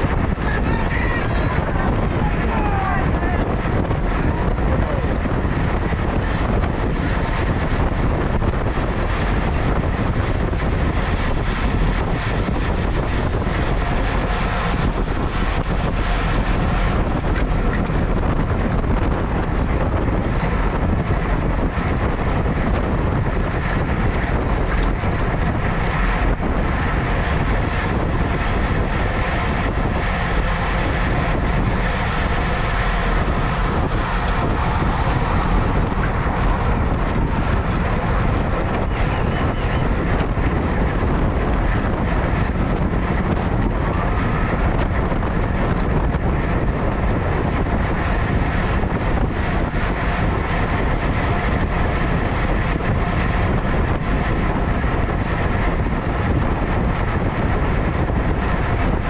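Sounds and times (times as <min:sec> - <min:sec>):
wind noise over microphone: 0:00.0 - 0:59.0.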